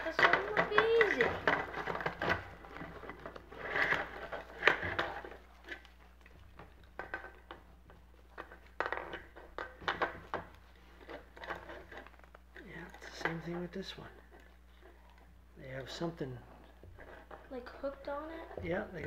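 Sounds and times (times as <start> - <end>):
small clicks and scrapes: 0.0 - 18.6.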